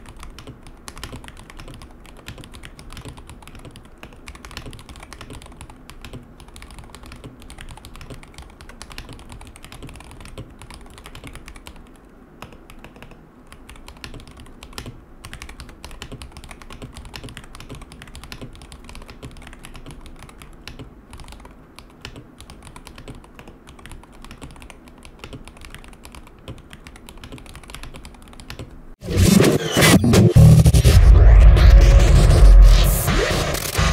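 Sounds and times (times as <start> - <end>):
mechanical keyboard typing: 0.0 - 28.8.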